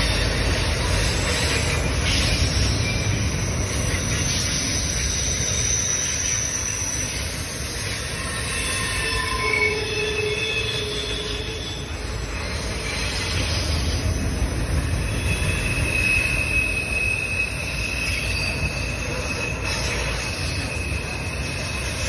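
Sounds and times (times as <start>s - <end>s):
freight train rumbling past: 0.0s - 22.0s
train wheels squealing: 0.0s - 22.0s.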